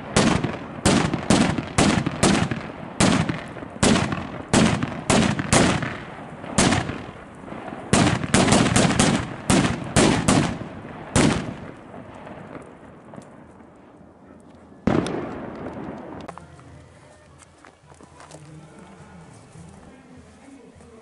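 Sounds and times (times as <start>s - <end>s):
firecrackers banging: 0.0s - 16.9s.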